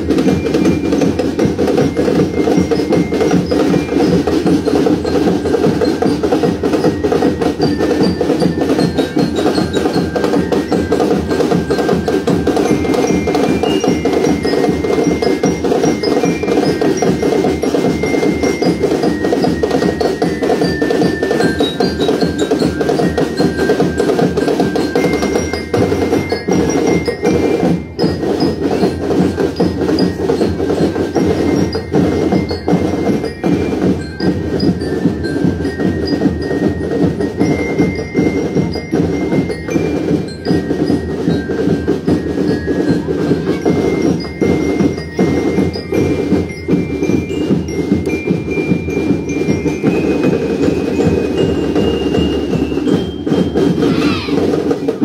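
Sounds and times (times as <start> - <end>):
bell lyres ringing melody: 0.0 - 55.0
continuous drumming: 0.0 - 55.0.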